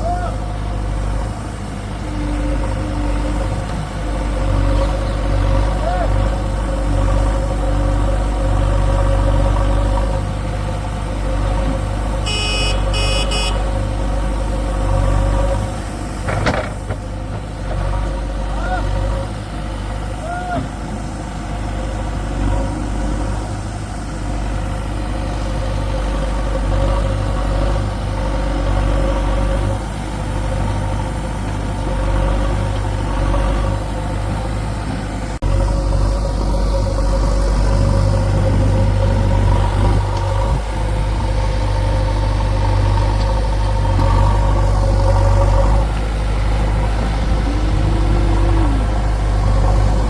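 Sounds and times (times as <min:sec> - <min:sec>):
heavy diesel engines running: 0:00.0 - 0:50.0.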